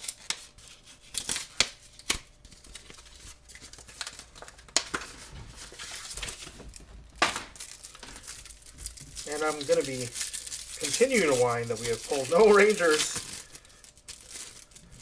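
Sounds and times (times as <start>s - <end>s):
handling of cards: 0.0s - 15.0s
wrapper crinkling and tearing: 0.0s - 15.0s.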